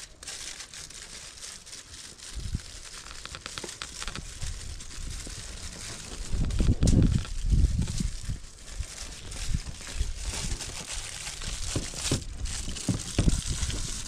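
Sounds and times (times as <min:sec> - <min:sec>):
foil crinkling: 0:00.0 - 0:14.0.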